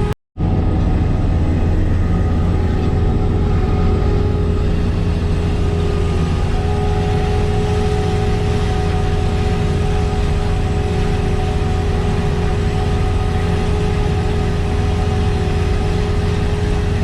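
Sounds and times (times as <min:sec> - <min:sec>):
constant machine whine: 0:00.0 - 0:17.0
diesel engine drone: 0:00.0 - 0:17.0
higher machine whine: 0:00.0 - 0:17.0.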